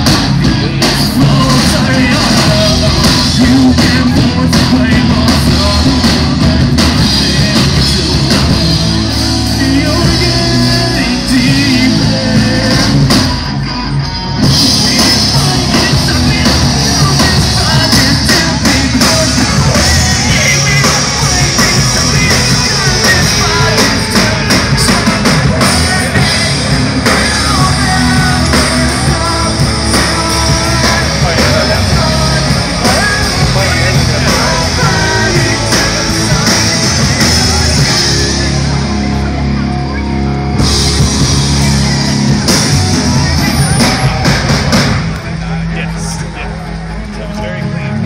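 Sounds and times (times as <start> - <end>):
loud rock music with singing: 0.0 - 48.0.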